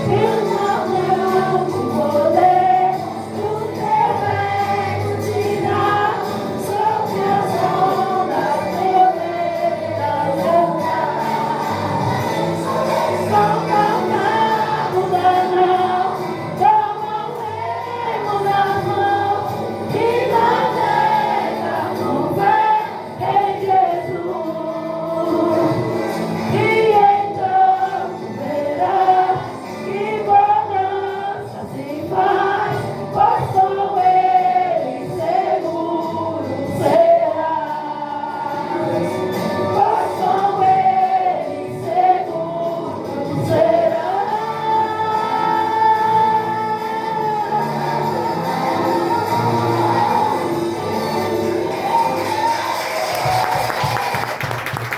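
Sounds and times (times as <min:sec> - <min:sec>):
choir singing gospel: 0:00.0 - 0:54.9
musical accompaniment: 0:00.0 - 0:54.9.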